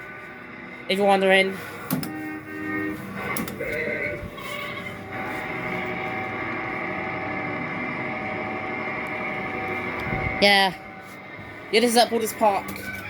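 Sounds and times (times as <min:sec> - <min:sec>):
kiddie ride humming drone: 0:00.0 - 0:13.0.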